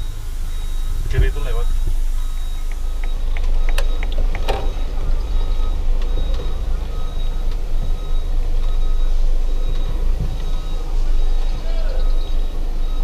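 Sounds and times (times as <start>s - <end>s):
diesel engine rumbling: 0.0s - 13.0s
reversing warning beeps: 0.0s - 13.0s.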